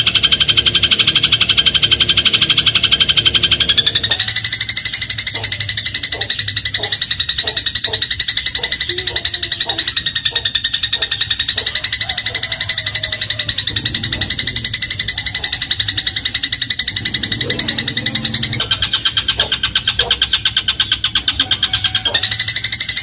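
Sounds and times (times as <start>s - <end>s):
sparrow chattering trill: 0.0s - 23.0s.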